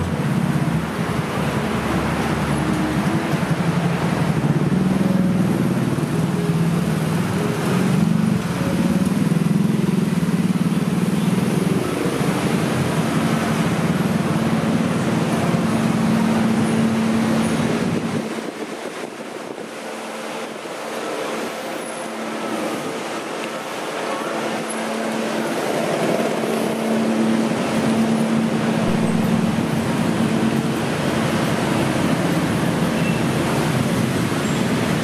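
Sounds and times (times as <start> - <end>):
cars and motorcycles passing: 0.0 - 35.0.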